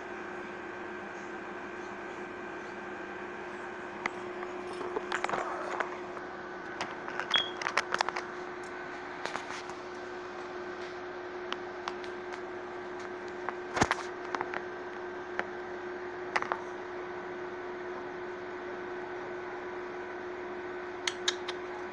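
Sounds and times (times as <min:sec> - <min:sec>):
steady hum: 0:00.0 - 0:21.9.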